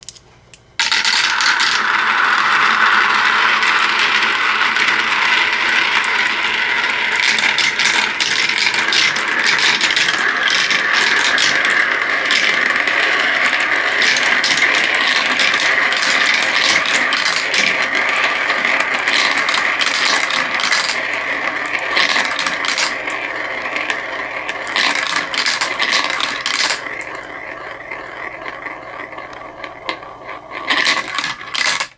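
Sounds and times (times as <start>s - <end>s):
marbles rolling and clattering: 0.8s - 31.9s.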